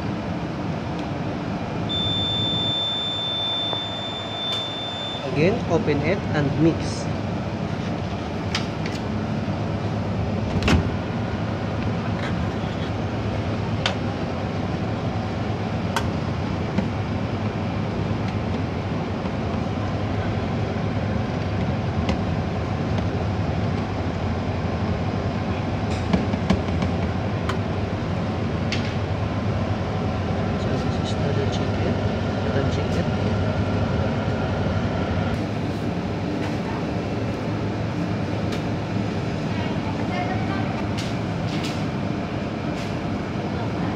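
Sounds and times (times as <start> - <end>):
kitchen machinery hum: 0.0 - 43.9.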